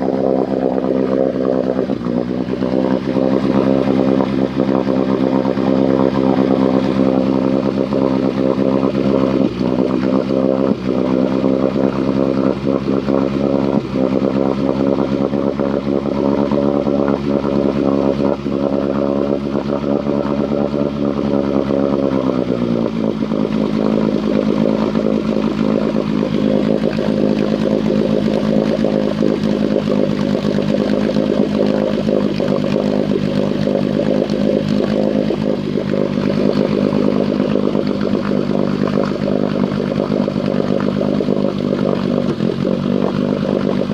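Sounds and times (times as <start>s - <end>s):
engine idling and sputtering: 0.0s - 43.9s.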